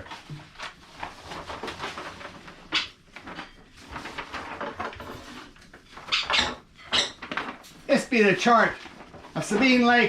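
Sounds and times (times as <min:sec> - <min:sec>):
paper rustling: 0:00.0 - 0:06.2, 0:07.2 - 0:10.0.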